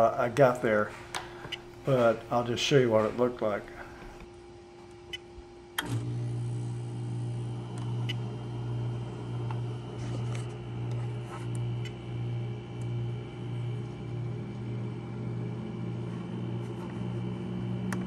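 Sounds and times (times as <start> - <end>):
water heater humming: 0.0 - 18.0.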